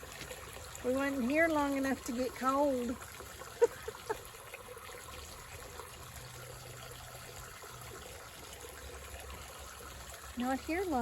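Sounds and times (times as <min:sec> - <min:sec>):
water running from pipe: 0:00.0 - 0:11.0.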